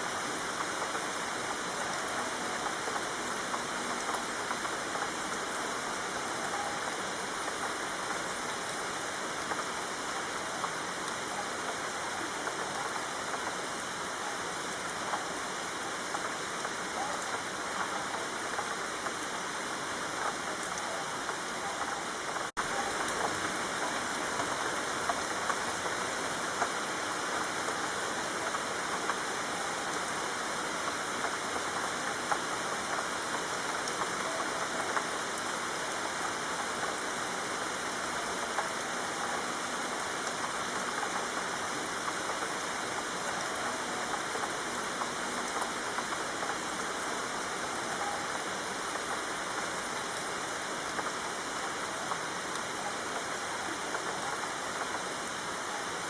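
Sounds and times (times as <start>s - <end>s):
rain on a street: 0.0s - 56.0s
raindrop ticks: 0.2s - 8.7s, 9.4s - 55.8s.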